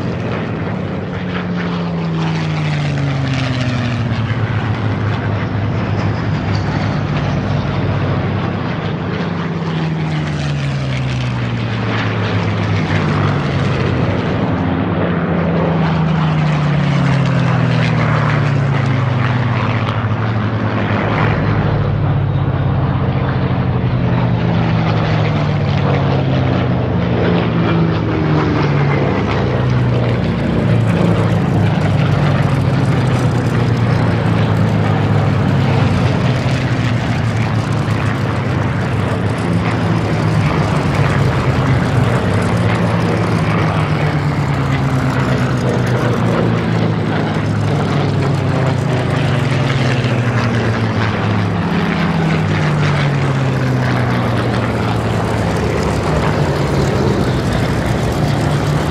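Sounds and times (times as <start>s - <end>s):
propeller planes flying past: 0.0s - 58.9s.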